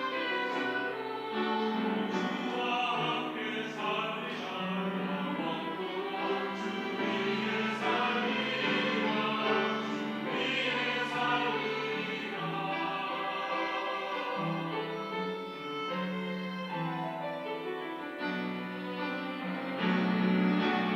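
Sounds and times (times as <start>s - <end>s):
church choir singing: 0.0s - 16.7s, 18.2s - 20.9s.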